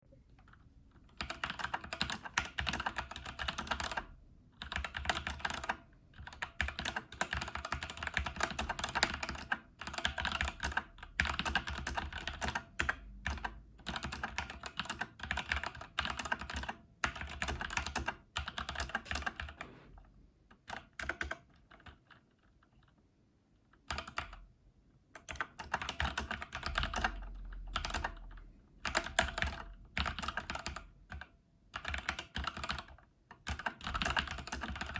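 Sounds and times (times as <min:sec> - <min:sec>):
mechanical keyboard typing: 0:00.4 - 0:19.7, 0:20.5 - 0:23.0, 0:23.8 - 0:24.5, 0:25.2 - 0:34.9.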